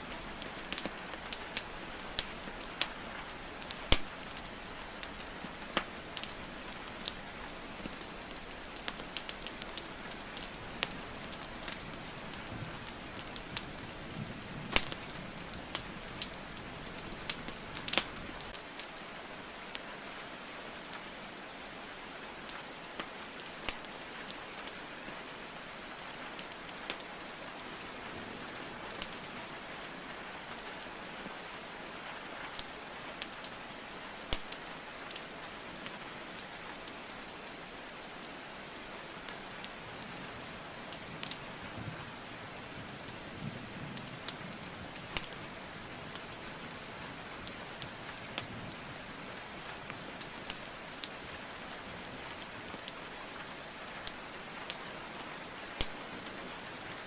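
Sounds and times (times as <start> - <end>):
burning logs crackling: 0.0 - 57.0
rain hiss: 0.0 - 57.0.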